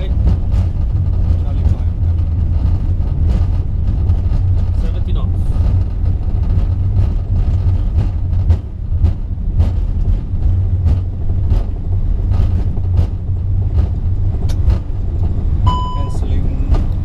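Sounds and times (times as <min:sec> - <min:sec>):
regular thumps: 0:00.0 - 0:17.0
wheels rumbling on runway: 0:00.0 - 0:17.0.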